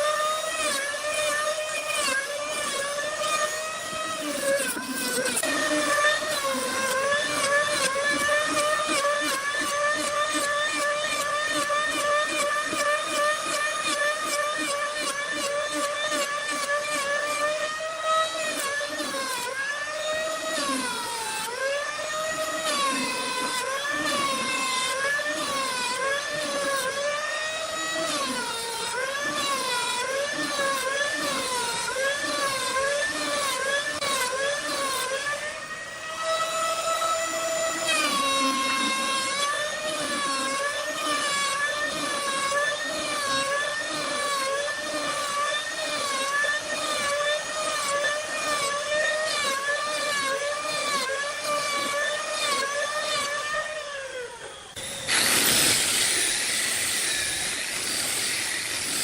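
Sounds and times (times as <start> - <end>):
power tool motor whining: 0.0 - 59.0.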